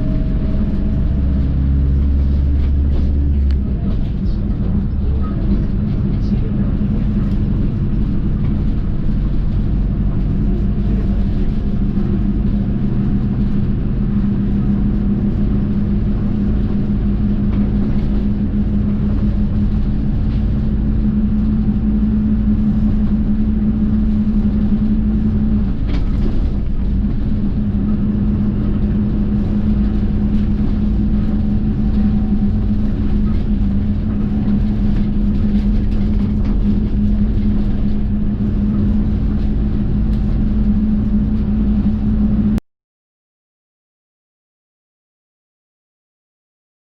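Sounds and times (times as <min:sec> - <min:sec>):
bus engine drone inside cabin: 0:00.0 - 0:42.6.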